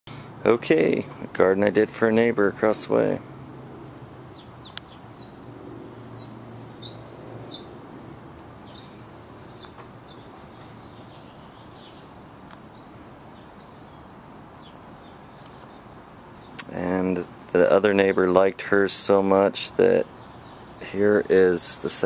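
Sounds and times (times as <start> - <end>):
small birds chirping: 0.1 - 22.0
steady background hiss: 0.1 - 22.0.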